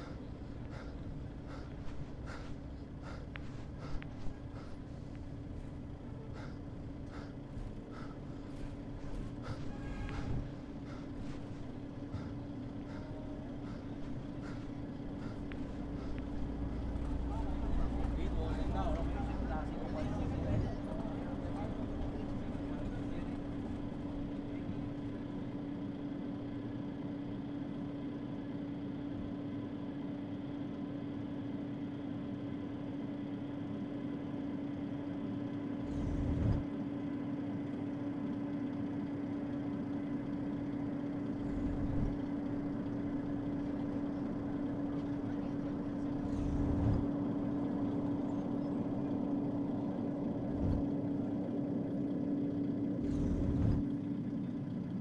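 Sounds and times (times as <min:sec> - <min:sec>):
low droning hum: 0:00.0 - 0:55.0.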